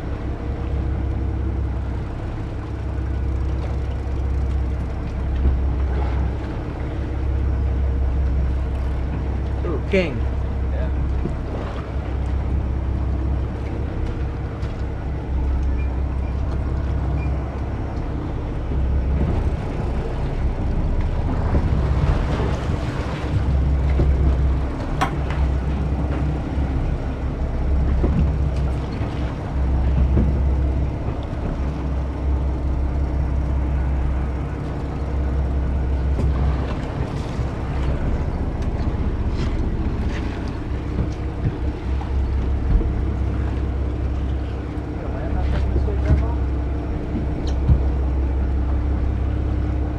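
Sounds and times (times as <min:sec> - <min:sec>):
boat engine humming: 0:00.0 - 0:49.9.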